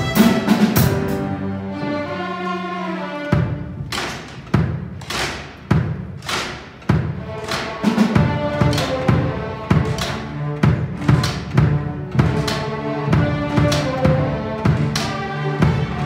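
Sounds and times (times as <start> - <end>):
string orchestra chords: 0.0 - 4.4, 7.0 - 16.0.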